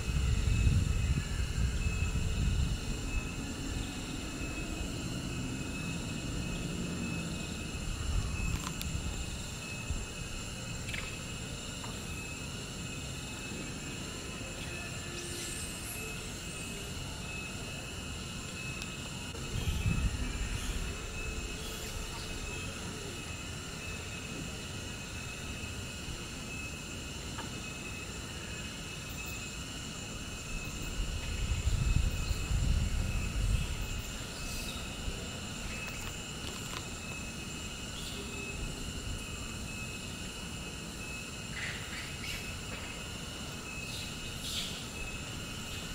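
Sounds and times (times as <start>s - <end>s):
insect drone: 0.0s - 45.9s.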